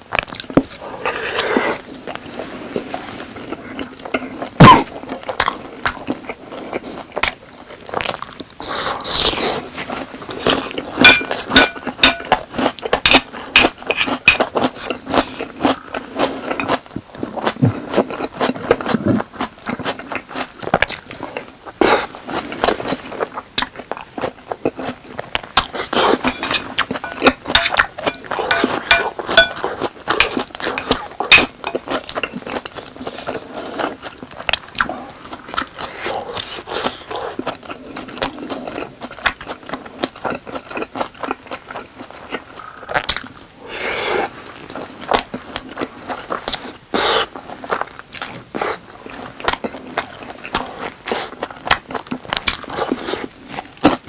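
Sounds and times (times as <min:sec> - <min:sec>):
close chewing and mouth sounds: 0:00.0 - 0:54.0.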